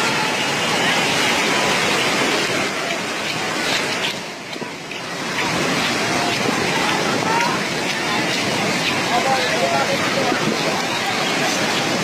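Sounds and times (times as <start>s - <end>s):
river floodwater rushing: 0.0s - 12.0s.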